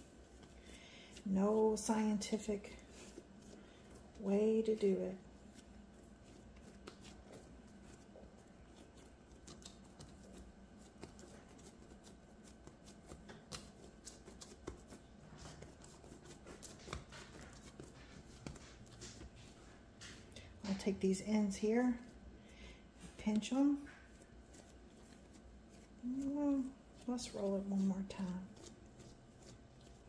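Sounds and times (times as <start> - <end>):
hands rolling dough on countertop: 0.0 - 30.0.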